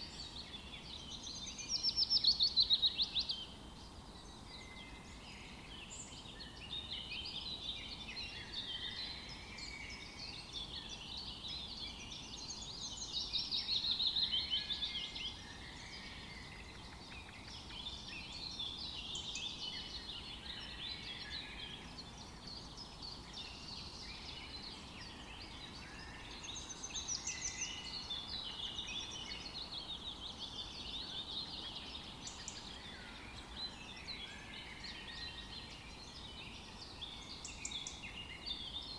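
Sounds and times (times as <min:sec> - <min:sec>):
faint background noise: 0:00.0 - 0:38.9
songbirds chirping and trilling: 0:00.0 - 0:38.9.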